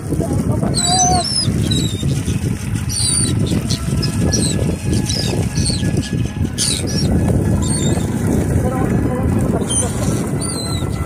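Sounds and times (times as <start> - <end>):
steady low rumble: 0.0 - 11.0
seabirds calling: 0.6 - 11.0.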